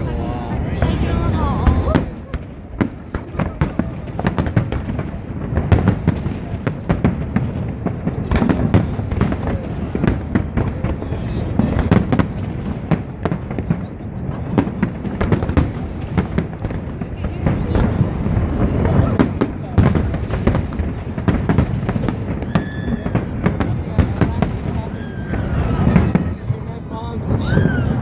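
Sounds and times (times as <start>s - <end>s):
fireworks booming: 0.0s - 28.0s
fireworks crackling: 0.0s - 28.0s.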